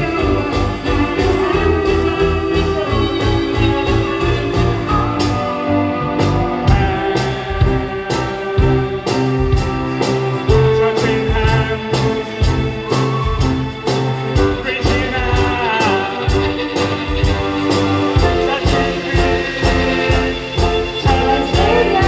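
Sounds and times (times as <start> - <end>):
drum beat: 0.0 - 22.0
live band playing: 0.0 - 22.0.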